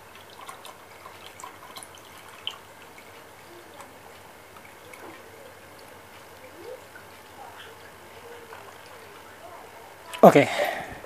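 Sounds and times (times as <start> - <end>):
small splashes and plops: 0.0 - 9.3
water trickling into jug: 0.0 - 10.5.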